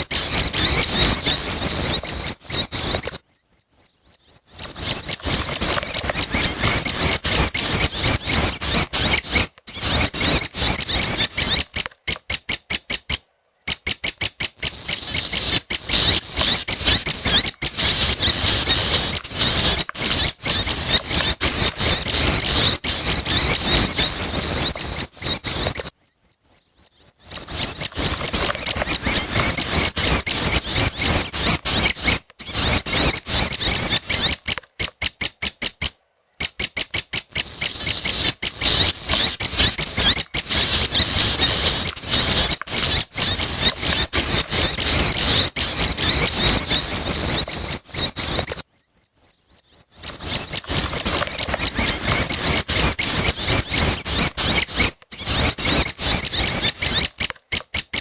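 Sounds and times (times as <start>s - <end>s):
bird chicks chirping: 0.0s - 58.0s.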